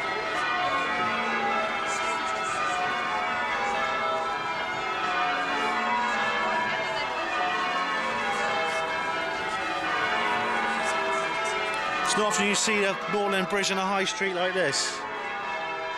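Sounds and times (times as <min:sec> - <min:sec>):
tower bells ringing: 0:00.0 - 0:15.9.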